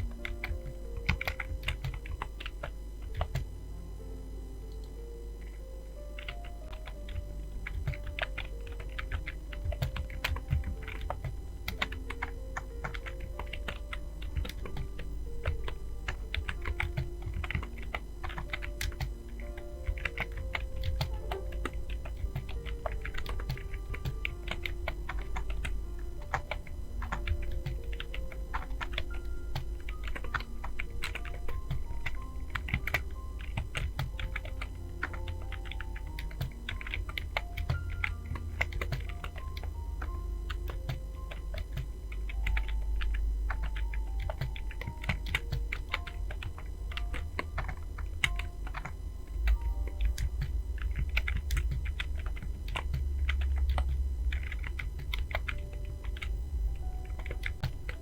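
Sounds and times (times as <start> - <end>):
fast typing on keyboard: 0.0 - 3.5, 5.5 - 58.0
soft background music: 0.0 - 58.0.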